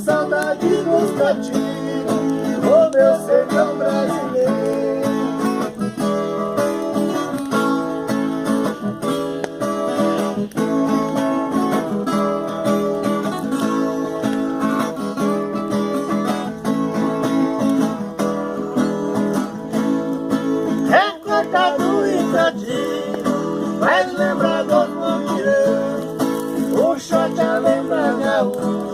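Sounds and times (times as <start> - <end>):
guitar plucked runs and strumming: 0.0 - 28.9.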